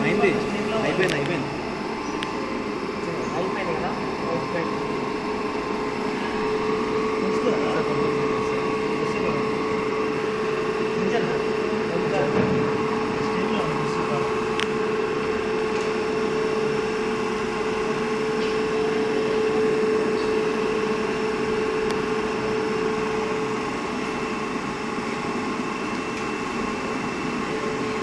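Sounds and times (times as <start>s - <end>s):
electric motor humming: 0.0s - 28.0s
motor whine: 0.0s - 28.0s.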